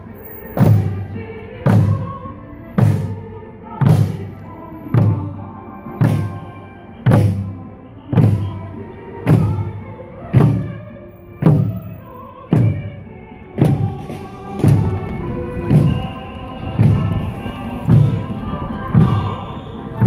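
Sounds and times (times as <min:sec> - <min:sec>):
music: 0:00.0 - 0:20.0.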